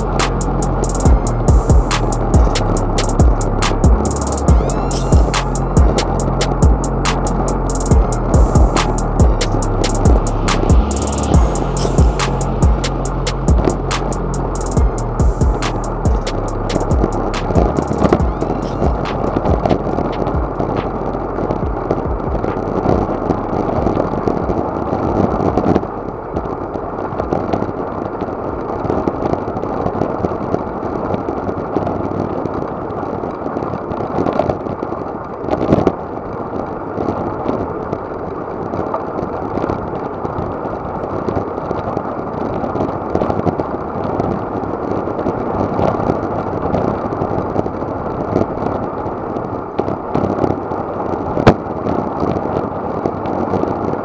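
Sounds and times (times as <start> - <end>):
wind on camera microphone: 5.6 - 54.0.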